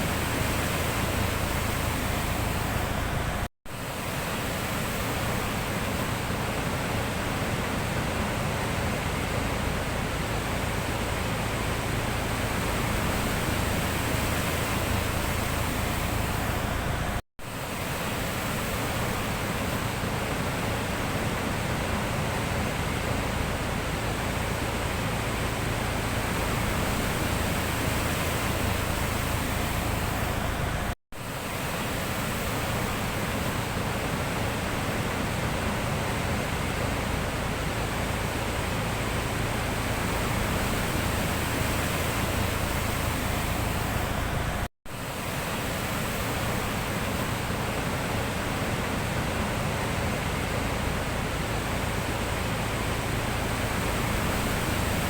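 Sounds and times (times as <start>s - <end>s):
surf roaring: 0.0s - 55.0s.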